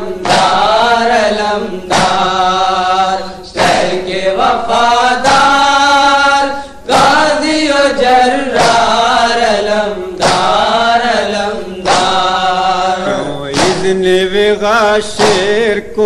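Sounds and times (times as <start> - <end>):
voices chanting a lament: 0.0 - 16.0.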